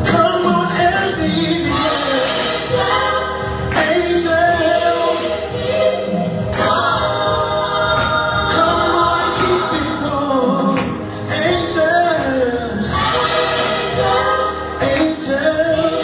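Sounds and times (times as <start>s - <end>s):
choir singing gospel: 0.0s - 16.0s
keyboard accompaniment: 0.0s - 16.0s.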